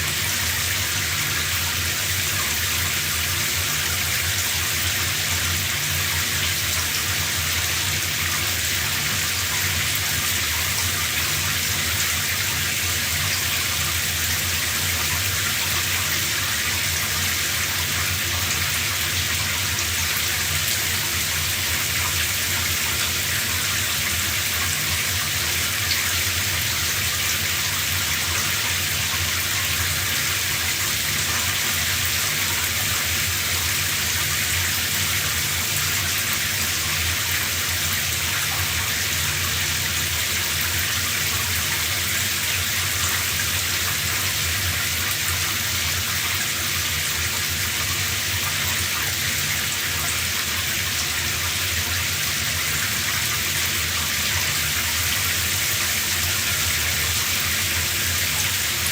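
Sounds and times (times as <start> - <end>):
shower running: 0.0 - 58.9.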